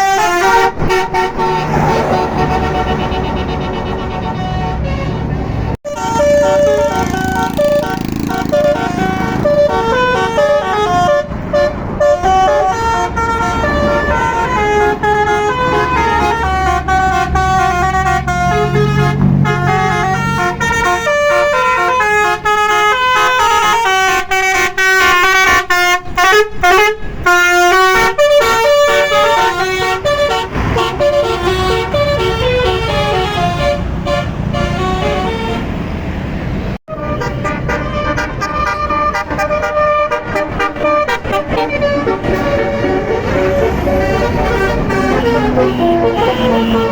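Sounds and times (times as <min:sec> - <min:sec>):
bus horn playing a melody: 0:00.0 - 0:36.0, 0:36.9 - 0:46.9.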